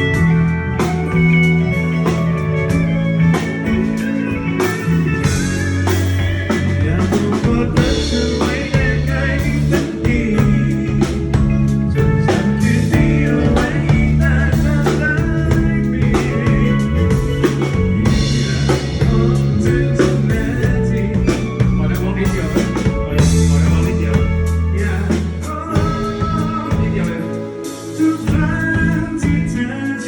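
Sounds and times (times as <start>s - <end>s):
drum kit beat: 0.0s - 30.0s
live band music: 0.0s - 30.0s.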